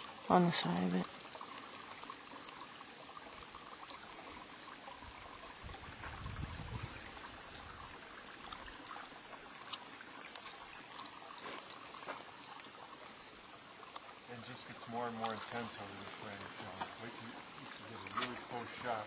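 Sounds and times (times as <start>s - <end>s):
stream trickling: 0.0s - 19.0s.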